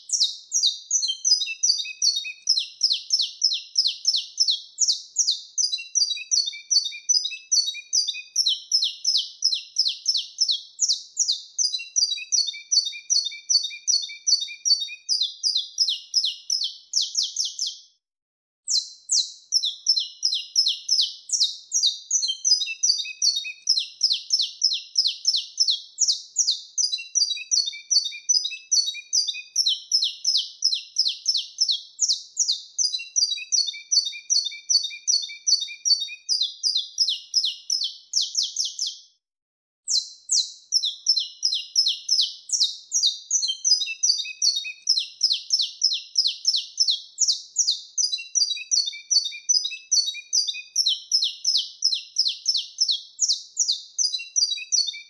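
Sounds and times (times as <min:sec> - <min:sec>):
finch singing high chirps: 0:00.0 - 0:17.9, 0:18.7 - 0:39.1, 0:39.9 - 0:55.0.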